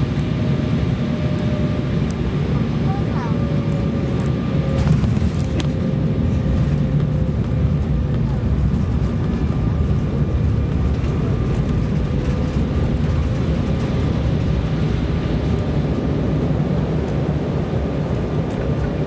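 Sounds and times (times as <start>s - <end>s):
jet engines roaring in reverse thrust: 0.0s - 19.0s
wheels rumbling on runway: 0.0s - 19.0s.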